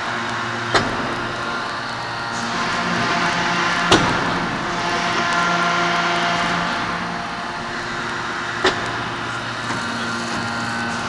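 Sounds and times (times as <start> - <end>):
machine hum with held tones: 0.0 - 11.0.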